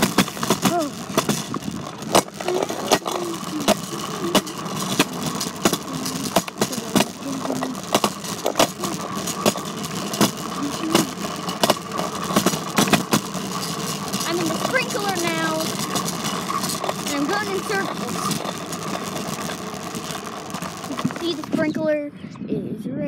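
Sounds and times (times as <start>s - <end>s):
bike rattling: 0.0s - 22.2s
steady hum: 0.0s - 22.2s.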